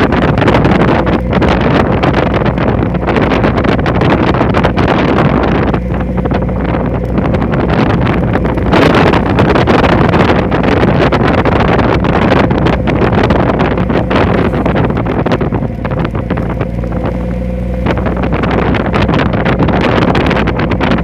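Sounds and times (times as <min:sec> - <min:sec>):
boat engine drone: 0:00.0 - 0:21.0
wind buffeting microphone: 0:00.0 - 0:21.0.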